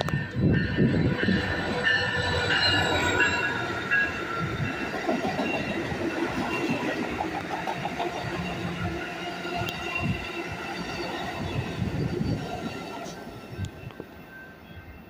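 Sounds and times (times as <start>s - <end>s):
train metallic squeal: 0.0s - 15.0s
train wheels rumbling on rails: 0.0s - 15.0s.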